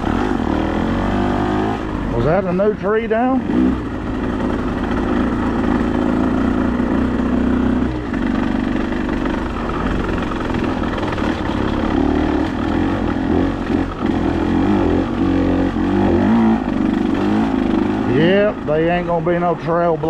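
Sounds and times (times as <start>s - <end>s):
off-road vehicle engine: 0.0s - 20.0s.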